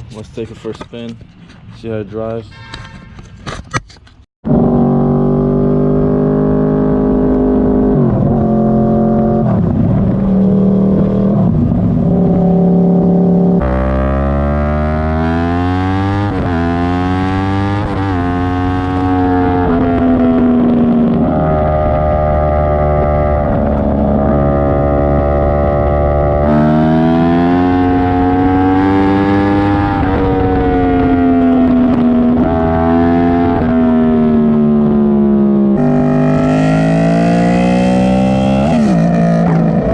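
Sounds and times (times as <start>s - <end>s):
sportbike engine revving: 4.5s - 39.9s.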